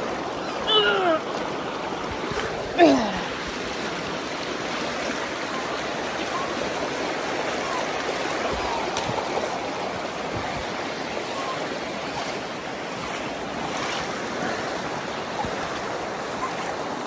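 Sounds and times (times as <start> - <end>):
floodwater rushing in creek: 0.0 - 17.0.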